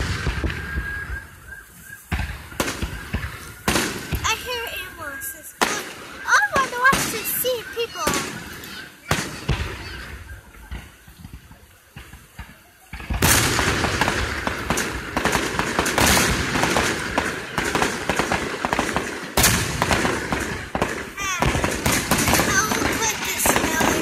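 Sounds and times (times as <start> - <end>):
fireworks booming: 0.0 - 24.0
fireworks crackling: 0.0 - 24.0.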